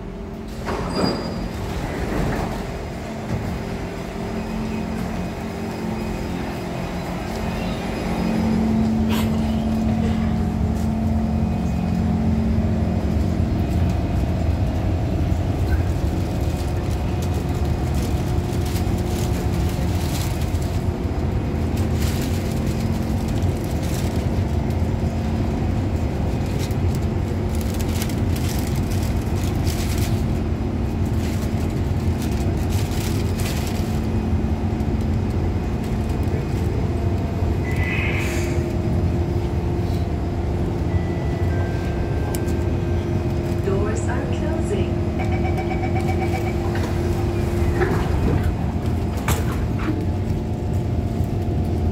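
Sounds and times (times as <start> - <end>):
train car hum and rumble: 0.0 - 51.9.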